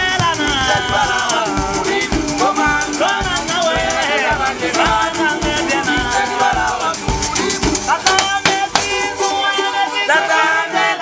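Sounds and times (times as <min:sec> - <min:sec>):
clicking rattling beat: 0:00.0 - 0:09.5
fiddle: 0:00.0 - 0:11.0
guitar: 0:00.0 - 0:11.0
men singing together: 0:00.0 - 0:11.0.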